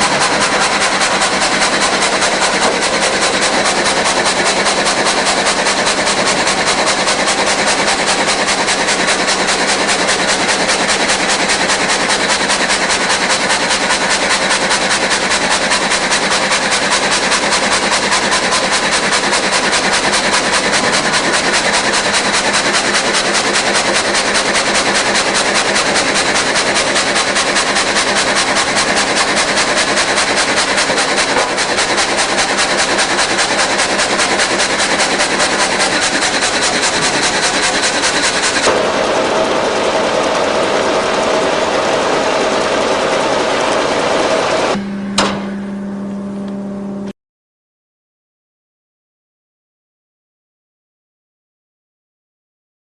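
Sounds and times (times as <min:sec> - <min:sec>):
rip saw machine running: 0:00.0 - 0:47.1.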